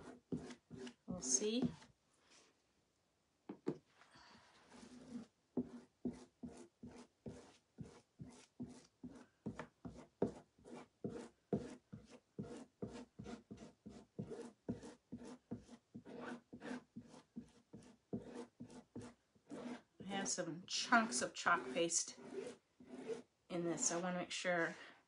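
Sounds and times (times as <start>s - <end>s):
squeegee scraping paste on screen: 0.0s - 1.9s, 4.6s - 24.4s.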